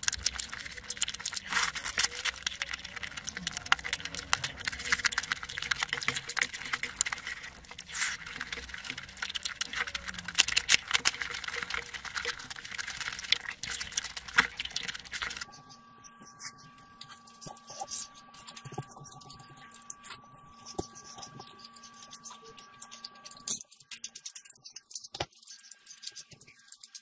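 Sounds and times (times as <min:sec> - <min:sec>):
wet eating clicks and squishing: 0:00.0 - 0:15.5, 0:16.3 - 0:27.0
faint steady hum: 0:00.0 - 0:27.0.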